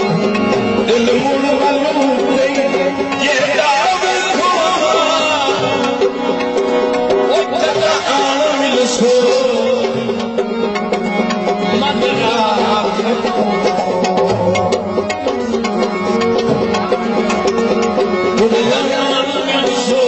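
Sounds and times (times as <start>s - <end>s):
hand drum percussion: 0.0s - 20.0s
held melody notes: 0.0s - 20.0s.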